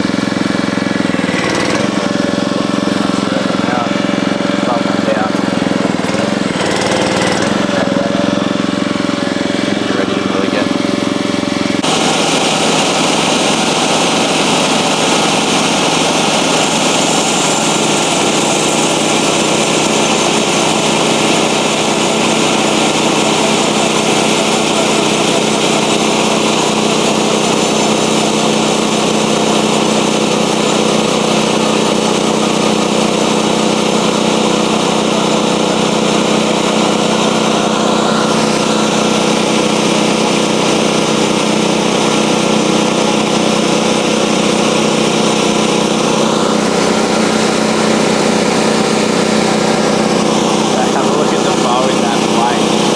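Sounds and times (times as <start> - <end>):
bandsaw mill cutting log: 0.0 - 52.9.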